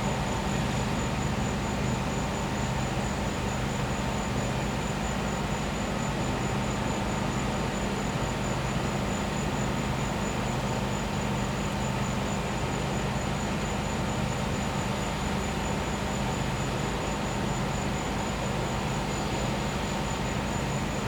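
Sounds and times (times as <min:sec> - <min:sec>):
cricket trill: 0:00.0 - 0:21.0.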